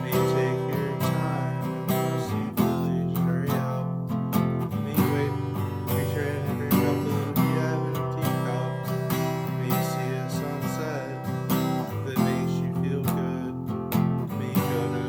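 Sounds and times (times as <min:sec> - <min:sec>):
strummed acoustic guitar song: 0:00.0 - 0:15.0.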